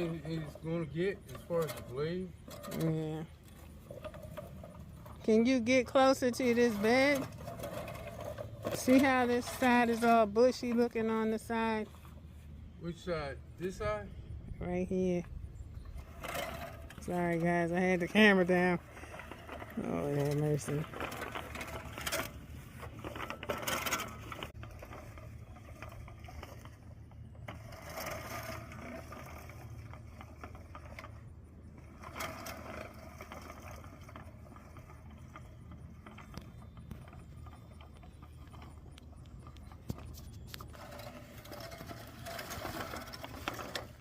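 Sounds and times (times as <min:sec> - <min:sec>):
reel mower blades clicking: 0:00.0 - 0:12.3, 0:15.1 - 0:44.0.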